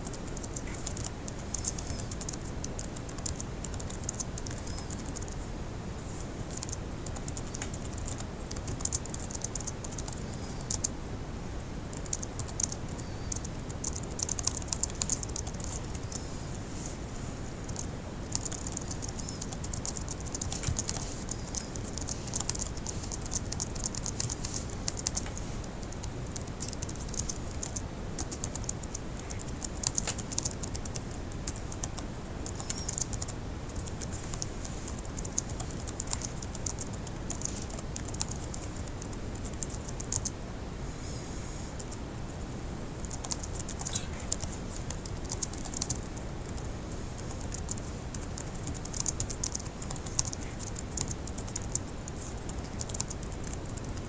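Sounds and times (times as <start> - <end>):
fast typing on laptop keyboard: 0.0 - 5.4, 6.4 - 10.9, 11.9 - 16.3, 17.7 - 40.4, 43.0 - 54.0
low background hiss: 0.0 - 54.0.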